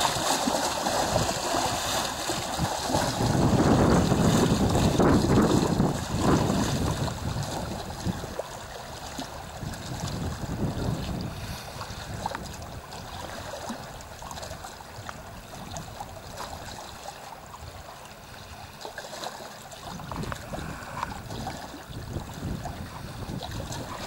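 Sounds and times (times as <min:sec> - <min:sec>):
small waves lapping: 0:00.0 - 0:24.0.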